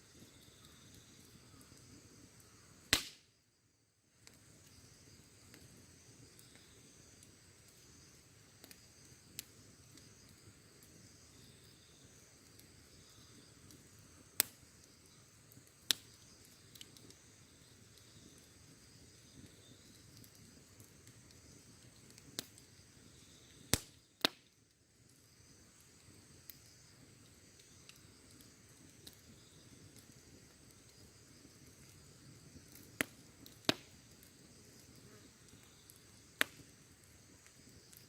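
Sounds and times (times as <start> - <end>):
burning wood popping: 0.0 - 3.3, 4.2 - 38.0
wood fire crackling: 0.0 - 38.0.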